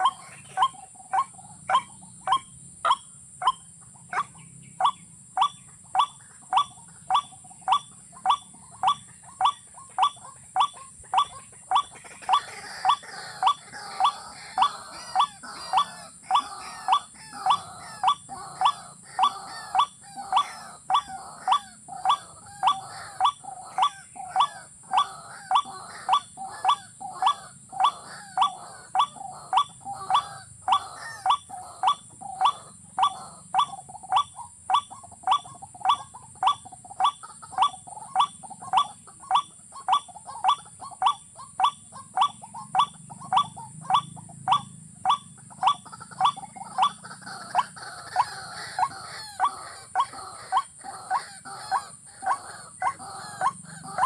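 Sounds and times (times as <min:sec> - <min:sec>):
waterhen calling: 0:00.0 - 0:54.0.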